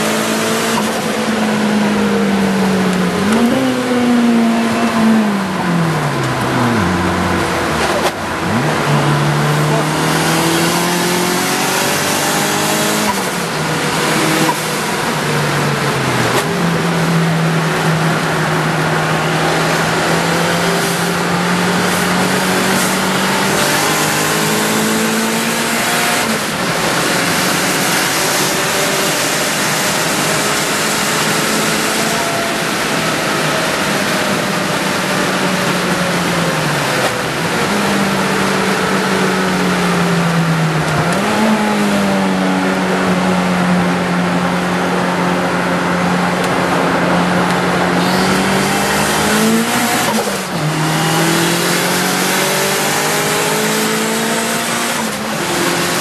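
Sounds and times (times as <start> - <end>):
turbocharged car engine pulling hard: 0.0 - 56.0
wind and road noise: 0.0 - 56.0.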